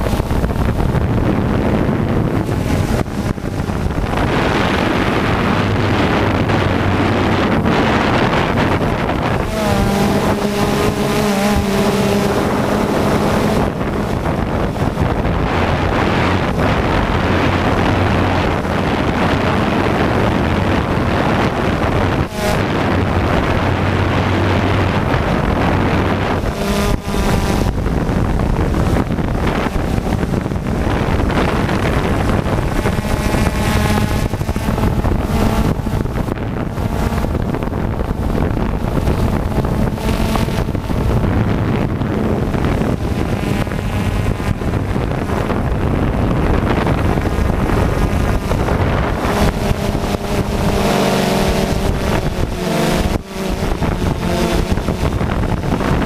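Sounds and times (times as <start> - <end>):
drone propellers whirring: 0.0 - 56.0
wind buffeting microphone: 0.0 - 56.0.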